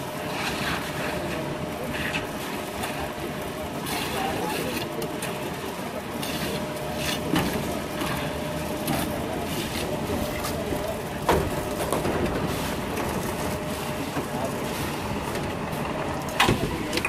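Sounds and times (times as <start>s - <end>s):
concrete mixer engine running: 0.0s - 17.0s.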